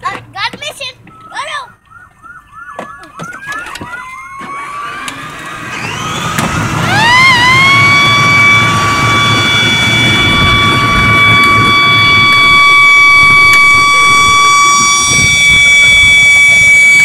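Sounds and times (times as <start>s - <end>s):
toy electronic siren: 1.2s - 17.0s
low rumble of toy truck: 2.6s - 17.0s.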